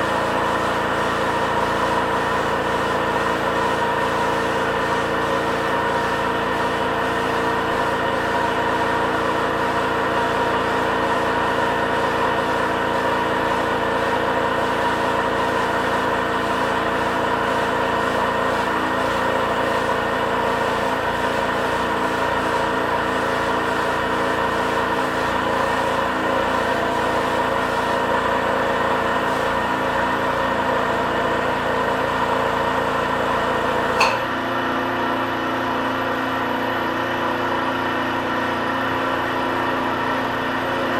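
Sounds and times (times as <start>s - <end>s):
air compressor humming: 0.0s - 36.0s.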